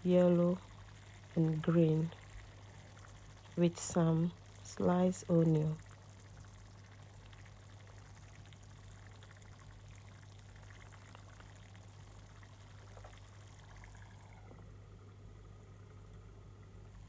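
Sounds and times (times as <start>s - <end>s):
stew simmering in a pot: 0.0s - 16.8s
steady low hum: 0.0s - 17.0s.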